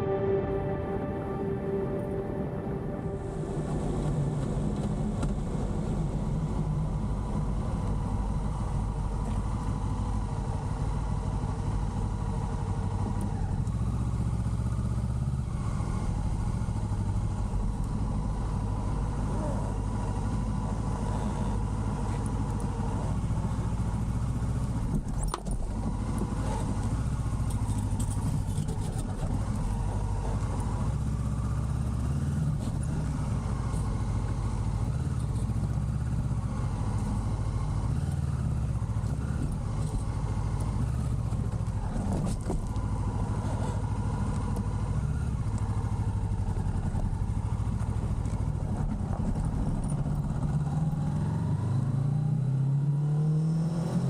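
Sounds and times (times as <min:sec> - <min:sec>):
motorcycle engine running: 0:00.0 - 0:52.8.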